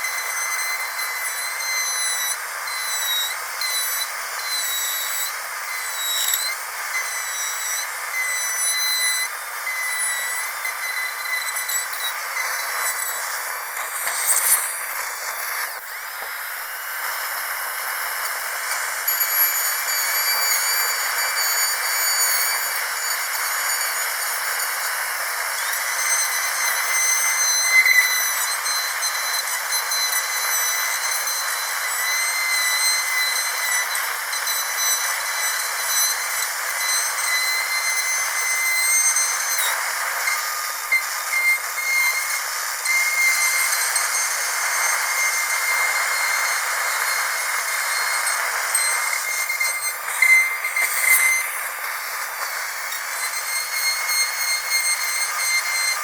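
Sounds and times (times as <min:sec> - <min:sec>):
dentist's drill whining: 0:00.0 - 0:56.0.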